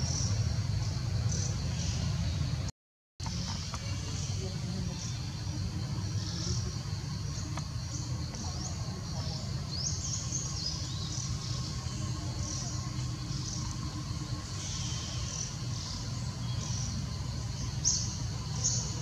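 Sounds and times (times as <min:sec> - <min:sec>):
insects and birds chirping: 0:00.0 - 0:19.0
steady low rumble: 0:00.0 - 0:19.0.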